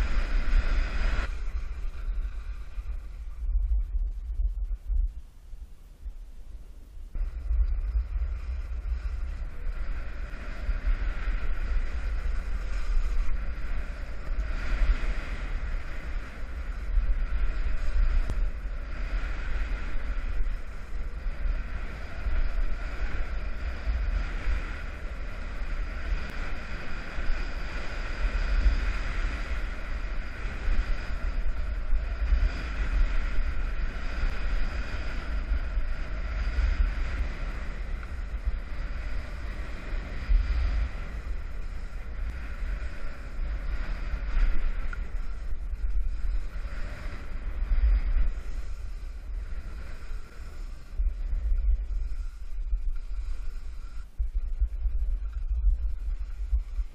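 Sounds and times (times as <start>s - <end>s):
skis sliding on snow: 0.0s - 4.9s, 7.3s - 56.9s
wind buffeting microphone: 0.0s - 56.9s.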